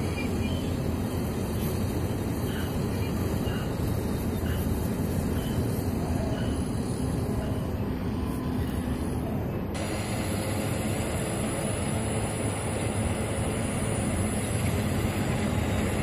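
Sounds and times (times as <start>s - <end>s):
heavy machinery rumbling: 0.0s - 16.0s.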